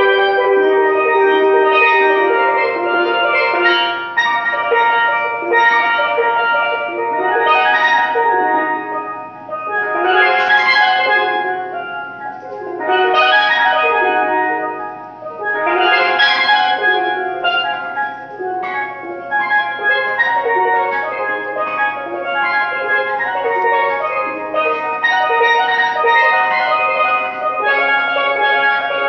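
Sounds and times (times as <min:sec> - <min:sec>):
steelpan played with sticks: 0:00.0 - 0:29.0.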